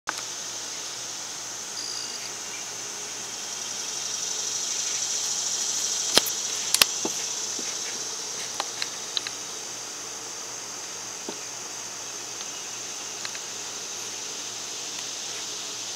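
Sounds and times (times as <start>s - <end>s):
insects chirring: 0.1s - 15.9s.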